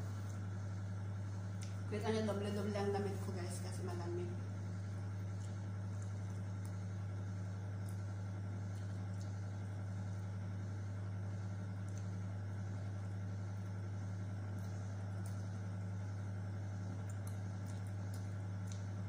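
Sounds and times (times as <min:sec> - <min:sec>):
steady low hum: 0:00.0 - 0:19.0
soft clicks of eating: 0:00.2 - 0:01.9, 0:04.6 - 0:19.0.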